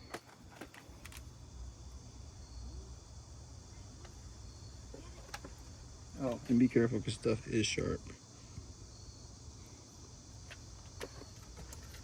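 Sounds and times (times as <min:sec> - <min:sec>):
insects chirping softly: 0:00.0 - 0:12.0.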